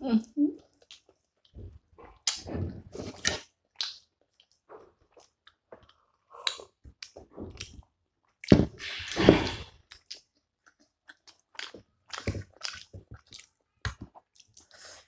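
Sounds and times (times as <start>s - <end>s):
wet chewing: 0.6s - 9.2s, 9.8s - 15.0s.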